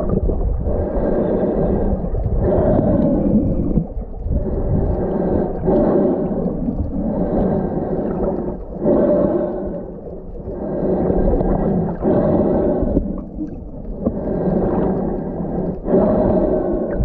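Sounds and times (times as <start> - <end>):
muffled underwater surges: 0.0 - 17.0.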